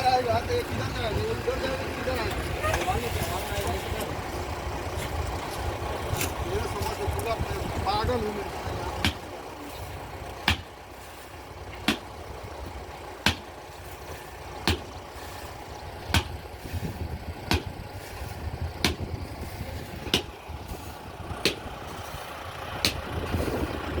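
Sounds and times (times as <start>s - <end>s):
excavator engine idling: 0.0s - 24.0s.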